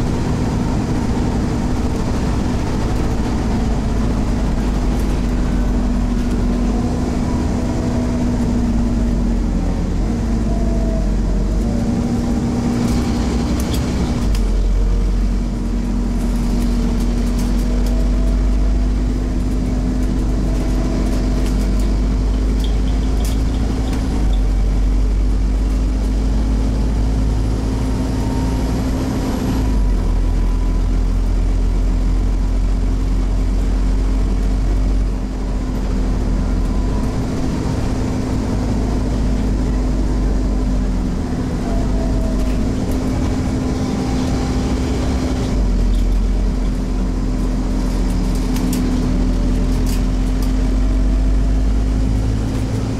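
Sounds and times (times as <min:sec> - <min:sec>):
bus diesel engine drone: 0:00.0 - 0:52.9.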